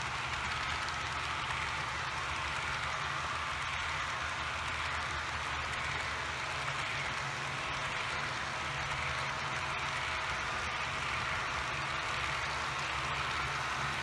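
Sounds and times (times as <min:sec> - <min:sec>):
model train wheels clattering: 0:00.0 - 0:14.0.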